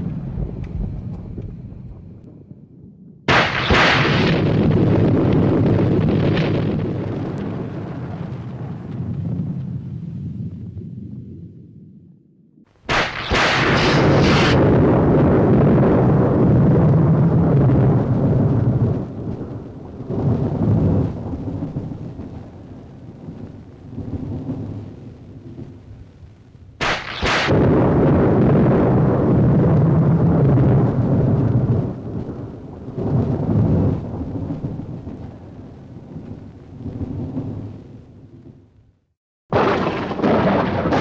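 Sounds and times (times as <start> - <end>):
rolling thunder rumble: 0.0 - 12.0, 12.9 - 38.9, 39.5 - 41.0
lightning crack: 3.3 - 10.7, 12.9 - 38.7, 39.5 - 41.0.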